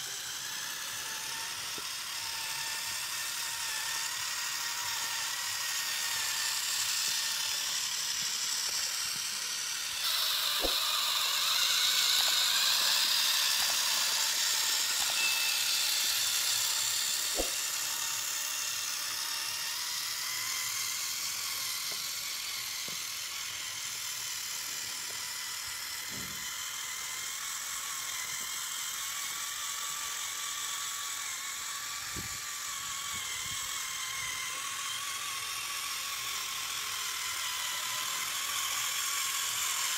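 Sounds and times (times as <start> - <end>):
small electric motor whirring: 0.0 - 39.9.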